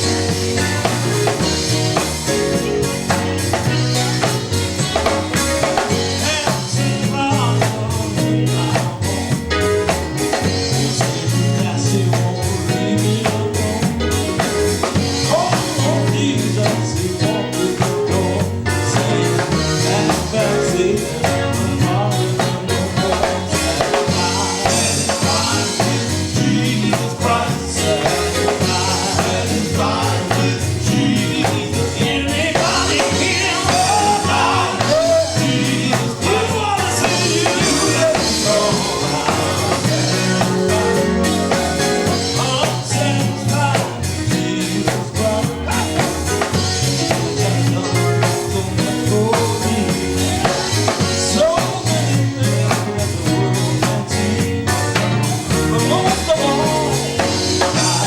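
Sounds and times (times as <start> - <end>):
band with drums and bass: 0.0 - 58.0
gospel group singing: 0.0 - 58.0.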